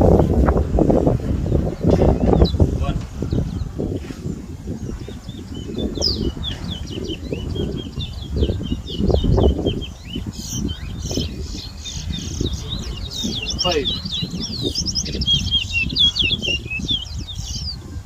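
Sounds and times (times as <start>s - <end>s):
finch chirping song: 1.3s - 18.0s.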